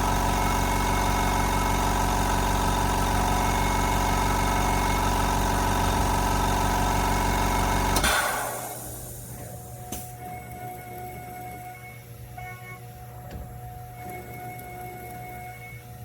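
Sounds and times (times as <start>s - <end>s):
milling machine cutting whine: 0.0s - 16.0s.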